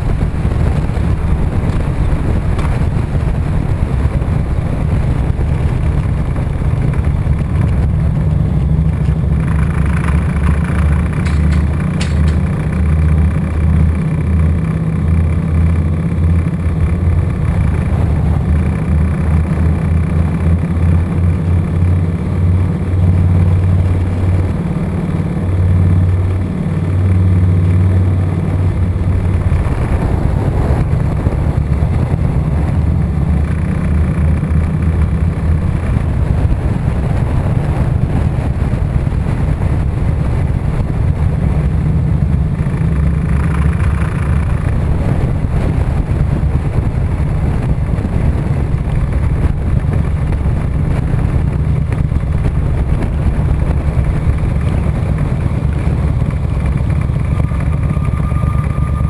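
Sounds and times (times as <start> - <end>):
motorcycle engine rumbling: 0.0 - 59.0
road and wind noise: 0.0 - 59.0.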